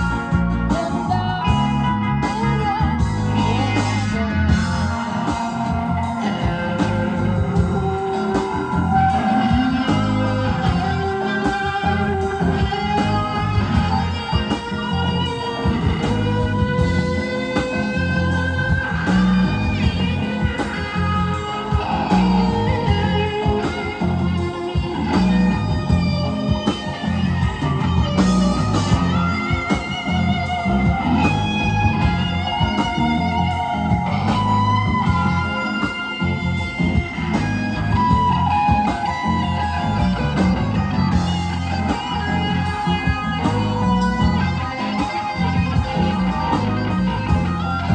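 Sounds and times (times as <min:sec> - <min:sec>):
bass guitar: 0:00.0 - 0:47.9
drums: 0:00.0 - 0:47.9
electric guitar lines: 0:00.0 - 0:47.9
keyboard: 0:00.0 - 0:47.9.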